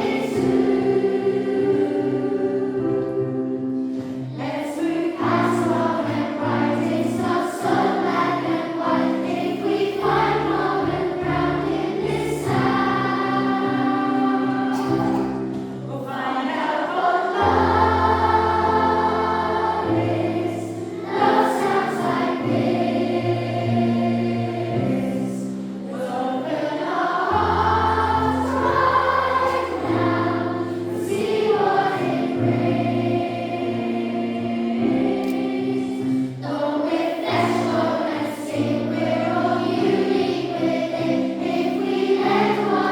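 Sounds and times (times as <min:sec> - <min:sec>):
children's choir singing: 0:00.0 - 0:42.9.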